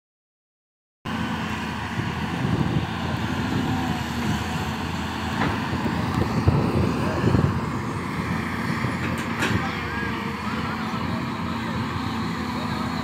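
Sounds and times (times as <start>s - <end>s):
excavator diesel engine running: 1.1s - 13.0s
excavator arm digging sand: 2.2s - 13.0s.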